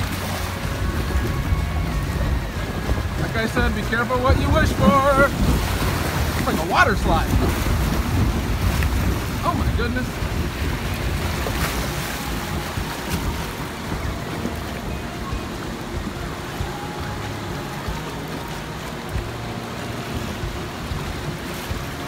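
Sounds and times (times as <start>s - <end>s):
water rushing and splashing: 0.0s - 22.0s
wind buffeting microphone: 0.0s - 22.0s.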